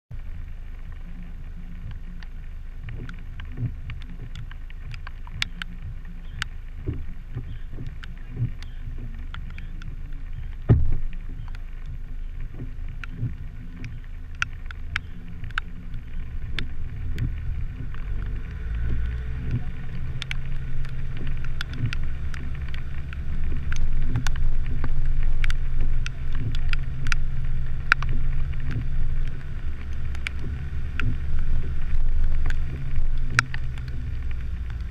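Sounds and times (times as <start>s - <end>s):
car engine and tyres rumbling: 0.1s - 34.9s
small clicks and knocks: 1.8s - 34.9s.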